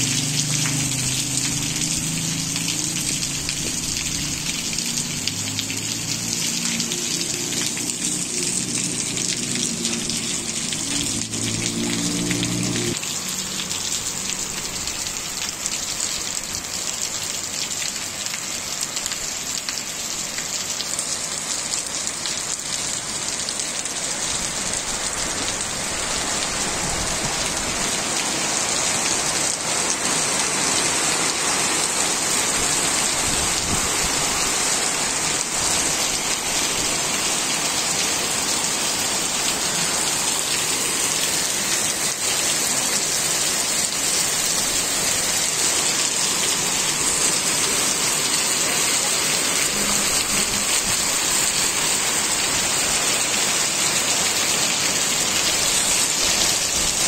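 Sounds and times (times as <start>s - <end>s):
heavy rain on wet pavement: 0.0s - 57.0s.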